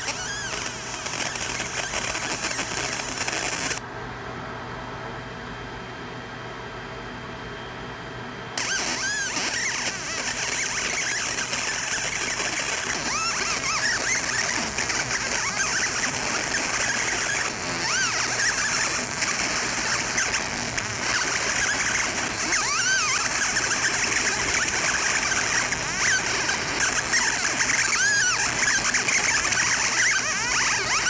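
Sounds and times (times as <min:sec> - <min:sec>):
laser engraving metal hiss: 0:00.0 - 0:03.8, 0:08.6 - 0:31.0
short squealing tones: 0:00.0 - 0:03.8, 0:08.6 - 0:31.0.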